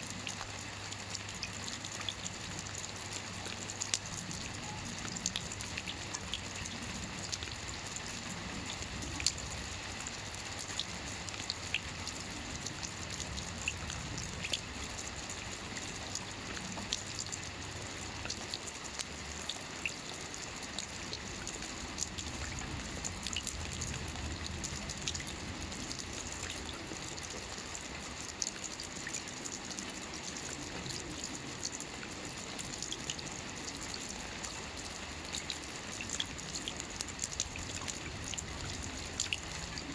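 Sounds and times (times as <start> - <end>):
rain hiss: 0.0 - 39.9
raindrops ticking on roof: 0.0 - 39.9.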